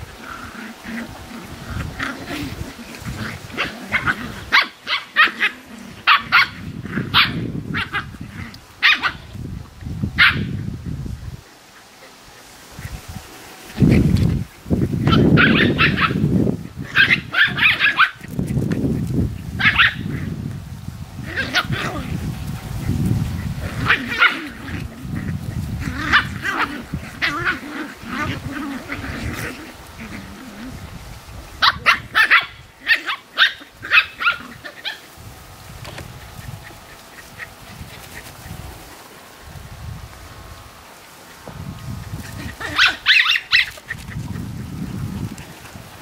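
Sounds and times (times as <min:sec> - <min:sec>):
puppies yipping and barking: 0:00.0 - 0:20.4, 0:21.2 - 0:39.7, 0:41.1 - 0:45.9.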